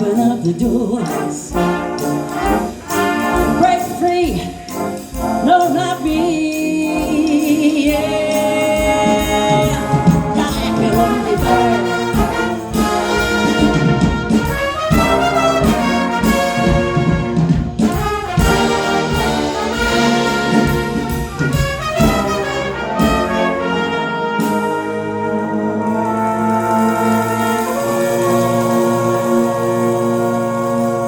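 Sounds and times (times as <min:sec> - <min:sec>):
steady drum beat: 0:00.0 - 0:31.0
trumpets and trombones chords: 0:00.9 - 0:31.0.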